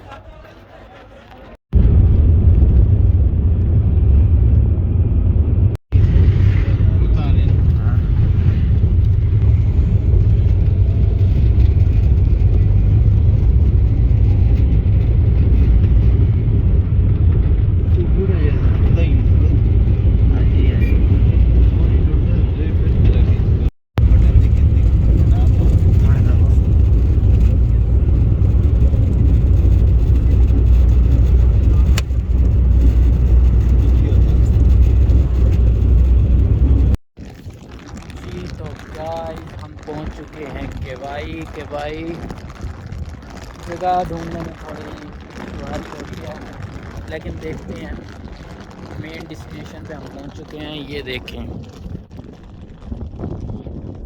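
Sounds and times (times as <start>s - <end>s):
car engine and road noise: 1.7s - 53.1s.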